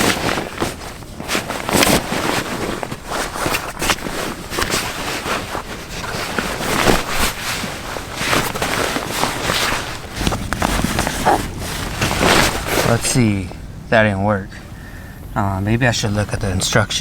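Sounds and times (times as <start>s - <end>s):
fabric rustling: 0.0s - 13.7s.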